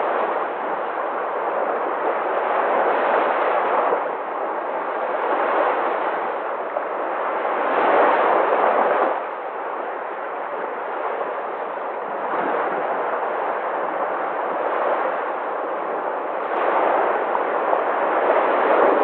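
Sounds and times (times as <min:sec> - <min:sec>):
sea waves washing in: 0:00.0 - 0:19.0.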